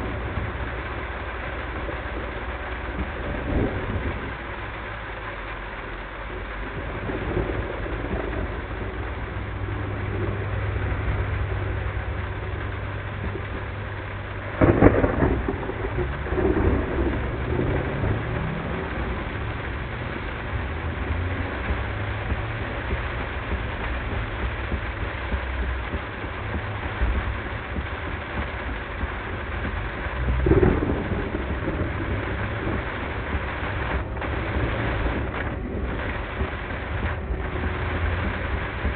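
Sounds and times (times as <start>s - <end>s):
loud thunderclap: 0.0s - 4.8s, 6.6s - 38.9s
car engine and road hum: 0.0s - 38.9s
heavy rain: 0.0s - 38.9s
thunder rumbling: 0.0s - 38.9s.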